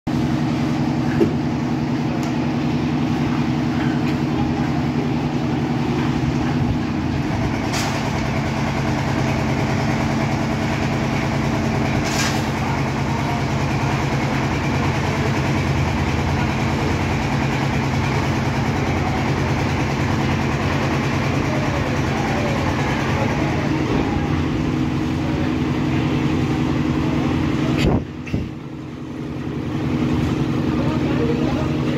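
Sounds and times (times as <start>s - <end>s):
concrete mixer drone: 0.1s - 31.9s.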